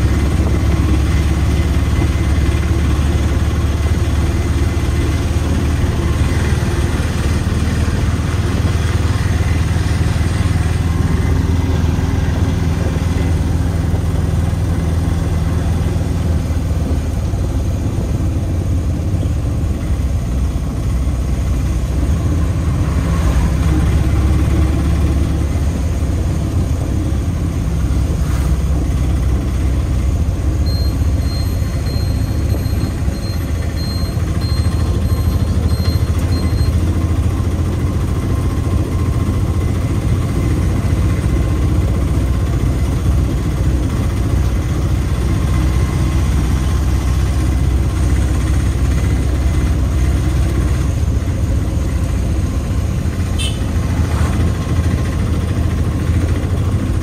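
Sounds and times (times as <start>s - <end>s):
auto-rickshaw engine running: 0.0s - 57.0s
road noise: 0.0s - 57.0s.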